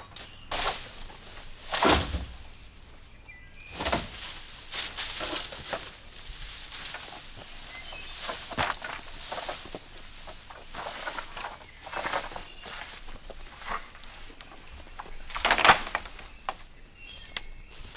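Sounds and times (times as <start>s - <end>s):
bamboo and brush rustling: 0.0s - 17.9s.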